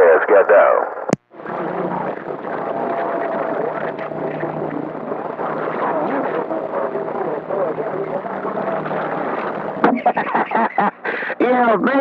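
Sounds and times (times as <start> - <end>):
radio static: 0.0 - 12.0
garbled distant voices: 1.4 - 12.0.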